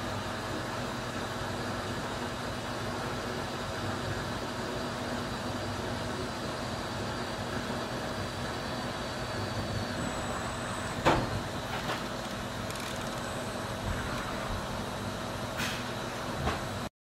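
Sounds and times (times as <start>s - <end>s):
milling machine running with whine: 0.0s - 16.9s.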